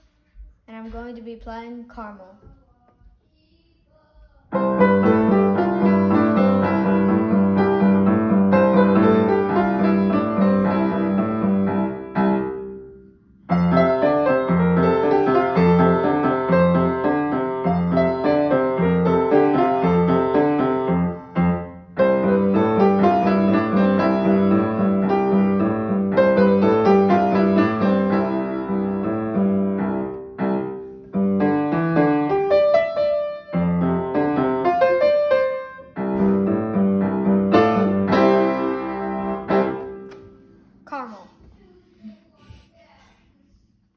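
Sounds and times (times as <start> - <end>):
upright piano playing: 4.5 - 40.7.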